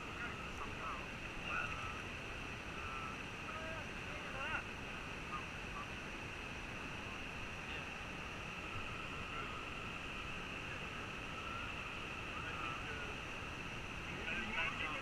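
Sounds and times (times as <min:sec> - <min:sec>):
faint distant calls: 0:00.0 - 0:15.0.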